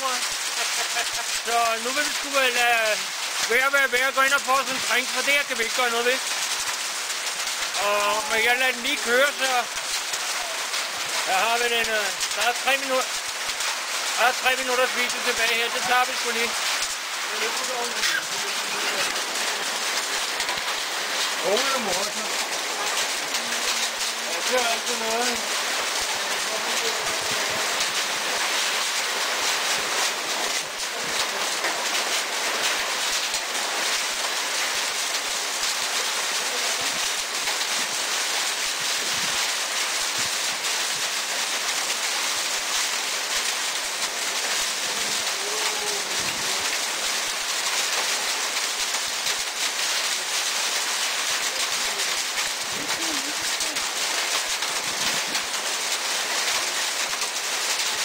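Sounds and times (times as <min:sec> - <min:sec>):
hail and rain pelting down: 0:00.0 - 0:58.0
sharp hail hits: 0:00.0 - 0:58.0.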